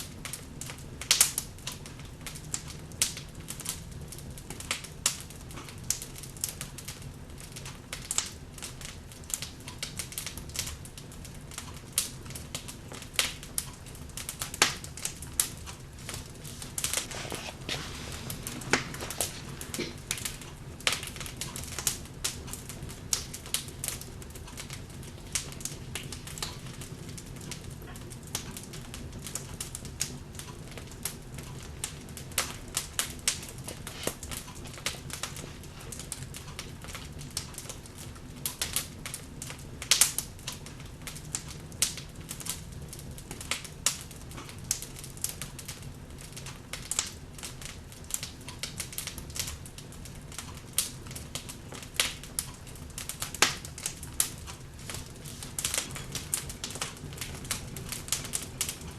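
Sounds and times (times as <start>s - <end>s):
log fire crackles and pops: 0.0s - 58.9s
low fire rumble: 0.0s - 58.9s.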